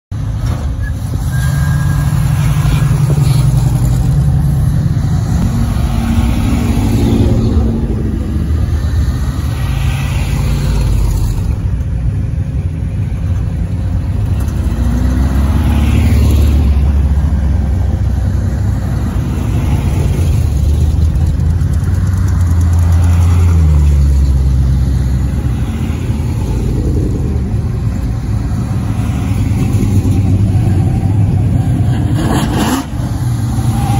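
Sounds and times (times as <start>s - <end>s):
vehicles driving past rumbling: 0.1s - 33.9s.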